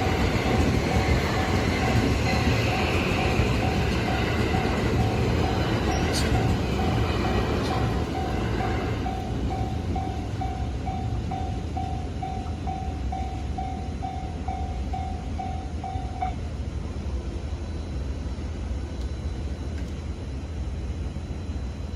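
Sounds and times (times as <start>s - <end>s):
electric train rumbling past: 0.0s - 21.9s.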